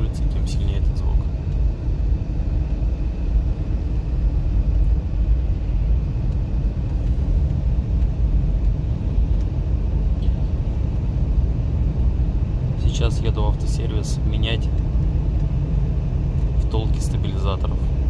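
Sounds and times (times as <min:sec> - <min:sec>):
road rumble inside car: 0:00.0 - 0:18.0.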